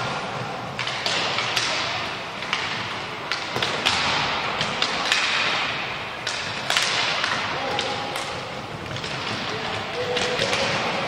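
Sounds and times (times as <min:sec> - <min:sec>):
hockey sticks clacking: 0:00.0 - 0:11.0.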